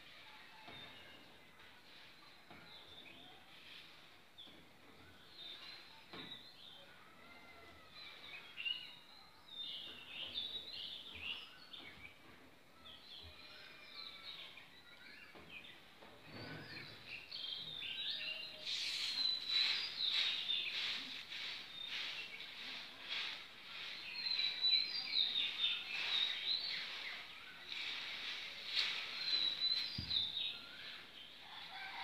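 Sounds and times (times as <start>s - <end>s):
small birds chirping: 0.1s - 32.0s.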